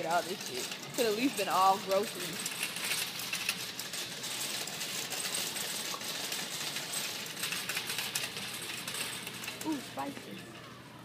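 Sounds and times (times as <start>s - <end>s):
shopping cart rattling: 0.0s - 11.0s.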